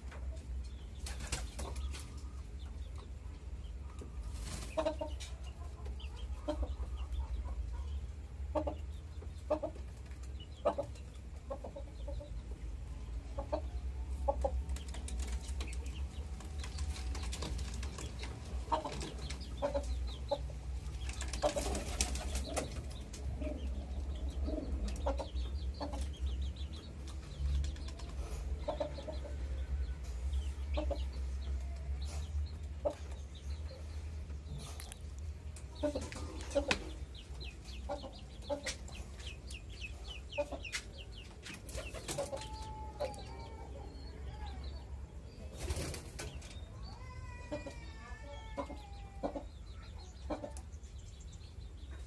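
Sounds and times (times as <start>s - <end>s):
pigeons clucking: 0.0s - 52.0s.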